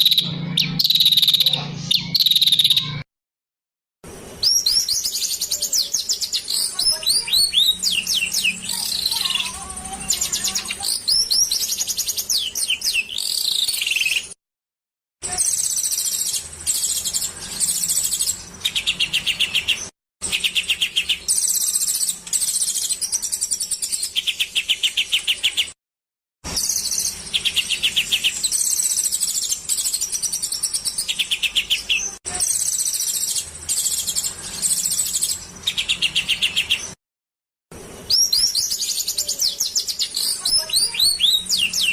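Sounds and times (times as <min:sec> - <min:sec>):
small songbirds singing: 0:00.0 - 0:03.0, 0:04.4 - 0:14.4, 0:15.3 - 0:25.8, 0:26.5 - 0:37.0, 0:38.0 - 0:41.9.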